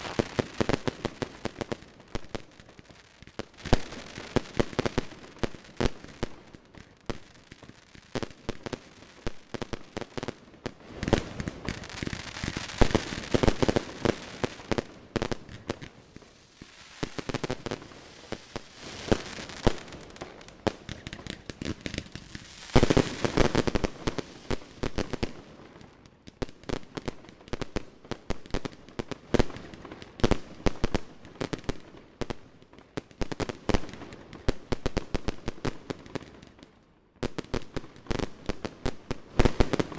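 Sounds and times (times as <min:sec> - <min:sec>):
fireworks bangs and pops: 0:00.0 - 0:39.9.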